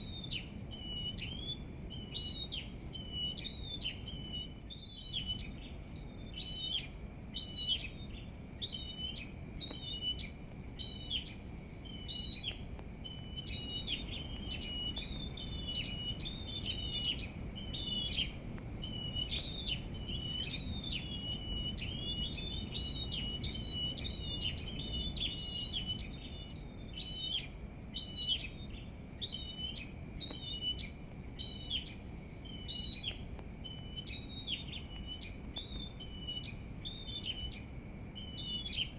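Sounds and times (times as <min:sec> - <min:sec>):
low steady background rumble: 0:00.0 - 0:38.9
small songbirds chirping: 0:00.0 - 0:38.9.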